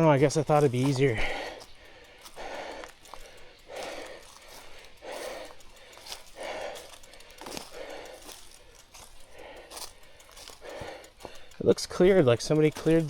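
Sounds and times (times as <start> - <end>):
hard rhythmic breathing: 0.0 - 13.0.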